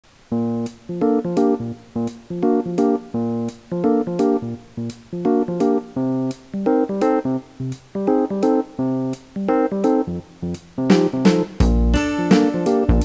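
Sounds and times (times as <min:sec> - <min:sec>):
keyboard playing bouncy chords: 0:00.3 - 0:13.0.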